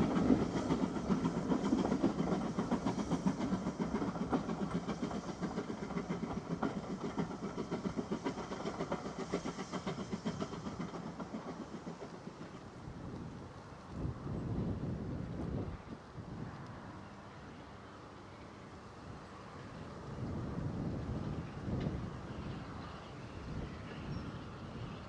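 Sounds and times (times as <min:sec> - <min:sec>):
steam train running: 0:00.0 - 0:25.0.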